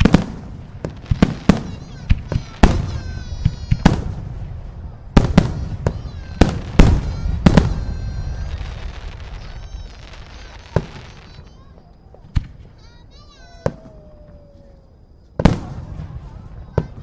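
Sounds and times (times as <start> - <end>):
fireworks bangs: 0.0 - 17.0
fireworks rumble and echo: 0.0 - 17.0.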